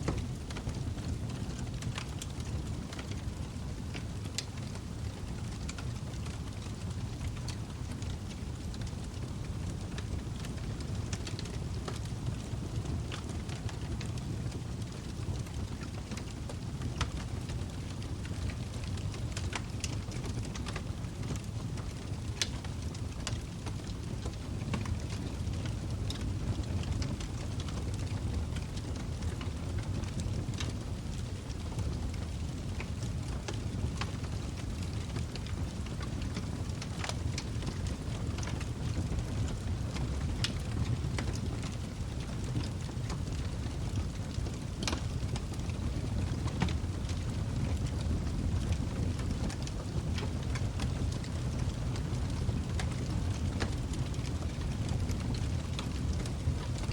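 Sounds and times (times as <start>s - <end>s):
logs crackling and popping: 0.0s - 56.9s
low rumble of flames: 0.0s - 56.9s.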